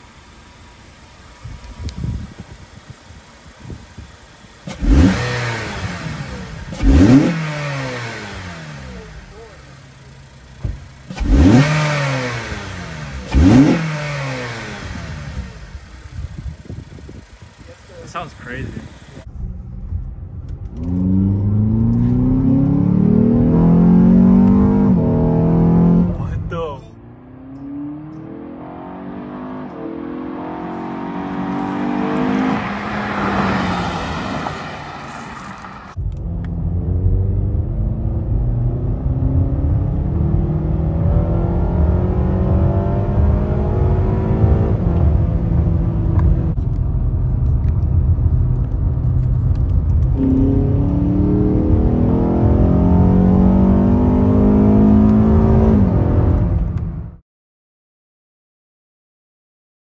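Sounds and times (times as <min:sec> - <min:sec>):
car engine revving: 0:00.0 - 0:57.2.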